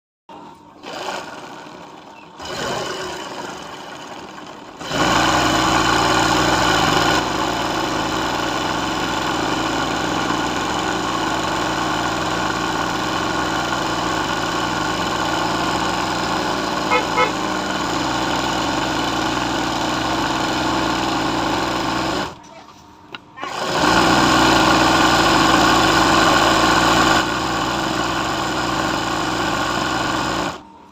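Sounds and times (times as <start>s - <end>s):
electric sewing machine stitching: 0.8s - 22.4s, 23.4s - 30.6s.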